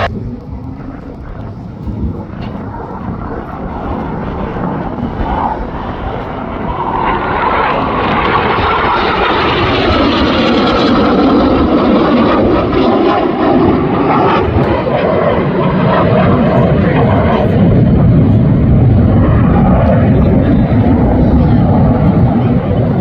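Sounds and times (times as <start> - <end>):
aircraft flying over: 0.0 - 23.0.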